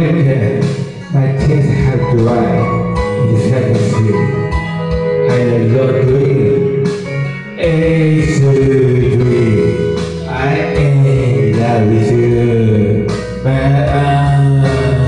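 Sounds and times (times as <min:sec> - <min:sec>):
man singing into microphone: 0:00.0 - 0:04.5, 0:05.2 - 0:06.9, 0:07.6 - 0:15.0
backing track with guitar: 0:00.0 - 0:15.0.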